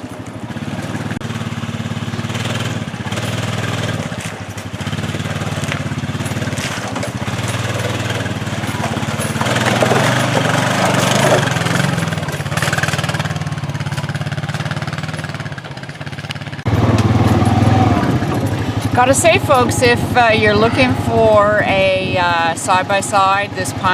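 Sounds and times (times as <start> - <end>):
utility vehicle engine driving: 0.0 - 23.9.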